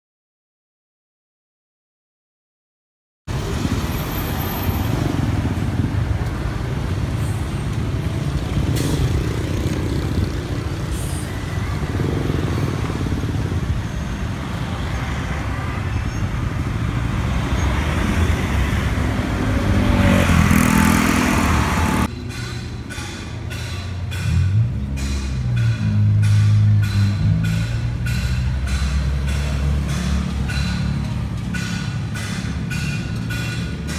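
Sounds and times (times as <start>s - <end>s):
road traffic rumbling: 3.3s - 33.9s.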